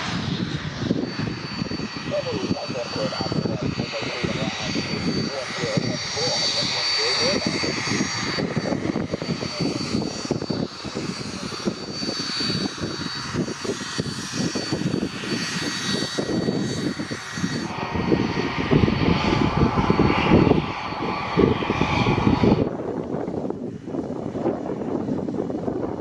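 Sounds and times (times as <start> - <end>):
aircraft engine whining: 0.0 - 26.0
wind buffeting microphone: 0.0 - 26.0.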